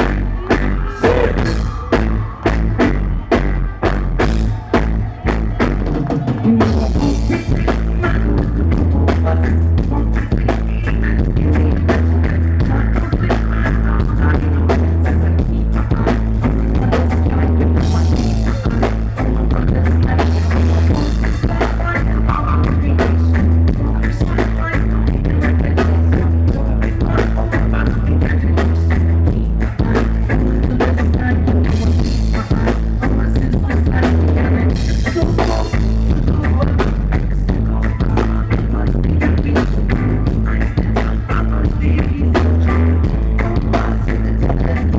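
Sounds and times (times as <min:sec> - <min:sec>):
heavy bass line: 0:00.0 - 0:44.9
live rock band playing: 0:00.0 - 0:44.9.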